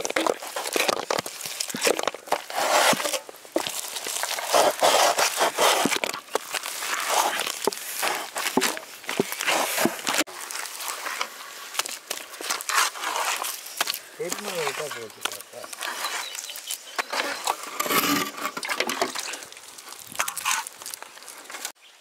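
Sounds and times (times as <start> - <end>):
rustling and crinkling handling: 0.0 - 21.8.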